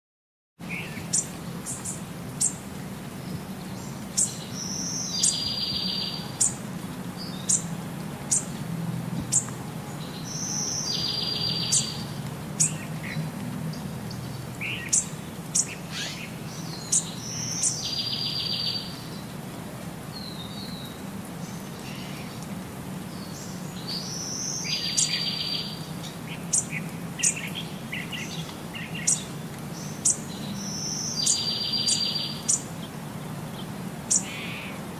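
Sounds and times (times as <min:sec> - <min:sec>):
small birds chirping: 0:00.6 - 0:08.6, 0:09.2 - 0:19.4, 0:20.1 - 0:34.9.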